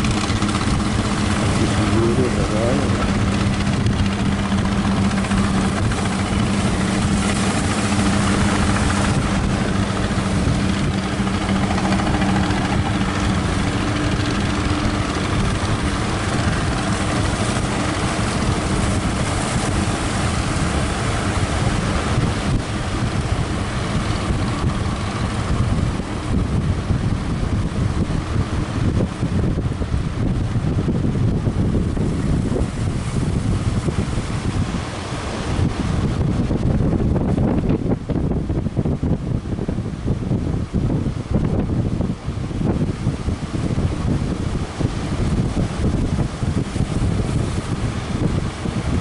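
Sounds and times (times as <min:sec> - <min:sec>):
rushing water: 0:00.0 - 0:49.0
speedboat engine hum: 0:00.0 - 0:49.0
wind buffeting microphone: 0:00.0 - 0:49.0.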